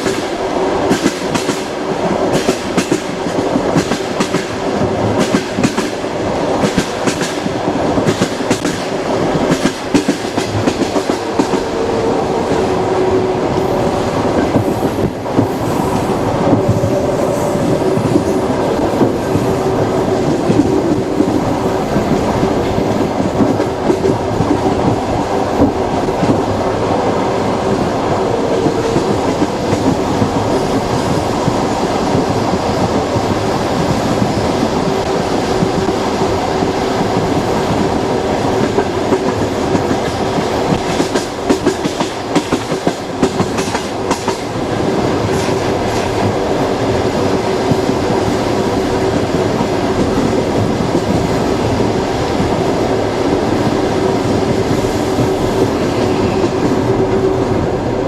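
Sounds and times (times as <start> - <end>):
train rumble: 0.0 - 58.0
train wheels clickety-clack: 0.0 - 58.0.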